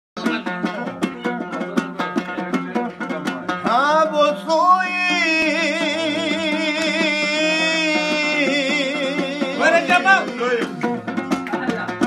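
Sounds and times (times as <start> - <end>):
plucked long-necked lute: 0.2 - 12.0.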